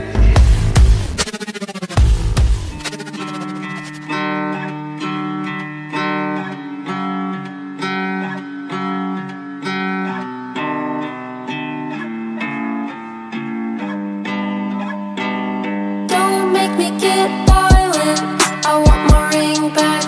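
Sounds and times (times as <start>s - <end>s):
plucked guitar arpeggios: 0.0s - 20.0s.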